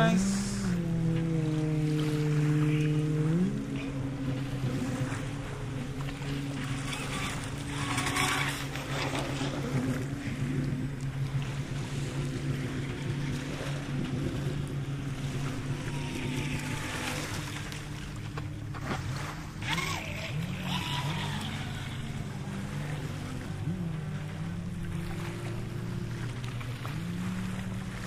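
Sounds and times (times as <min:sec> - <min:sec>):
rc speedboat running: 0:00.0 - 0:28.0
small waves washing on sand: 0:00.0 - 0:28.0
steady low hum: 0:00.0 - 0:28.0.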